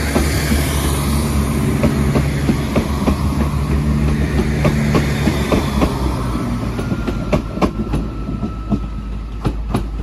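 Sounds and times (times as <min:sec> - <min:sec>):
train wheels clicking over rail joints: 0:00.0 - 0:10.0.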